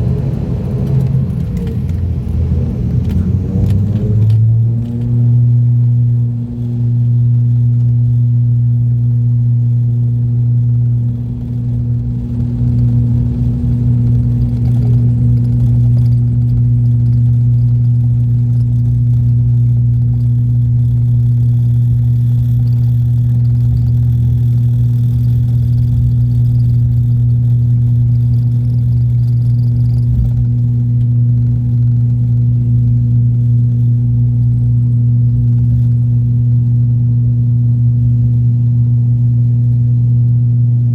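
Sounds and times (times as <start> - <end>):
turboprop drone in aircraft cabin: 0.0 - 40.9.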